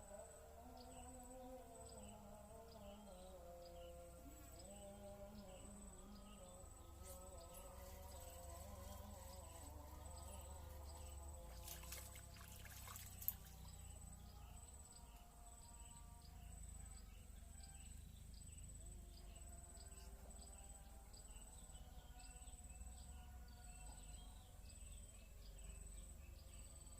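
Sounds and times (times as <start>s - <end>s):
insect chorus buzzing and chirping: 0.0s - 26.9s.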